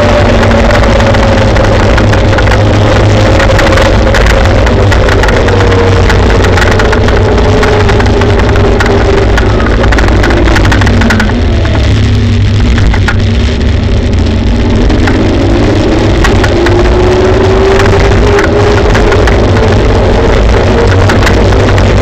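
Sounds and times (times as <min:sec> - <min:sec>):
rapid rattling clicks: 0:00.0 - 0:13.4, 0:14.3 - 0:22.0
electric motor whine: 0:00.0 - 0:22.0
road and wind rumble: 0:00.0 - 0:22.0.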